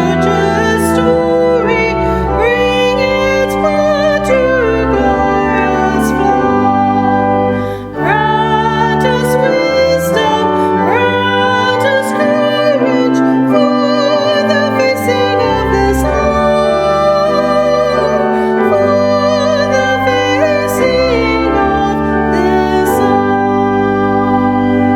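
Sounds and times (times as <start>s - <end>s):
person singing with vibrato: 0.0s - 24.9s
sustained keyboard chords: 0.0s - 24.9s.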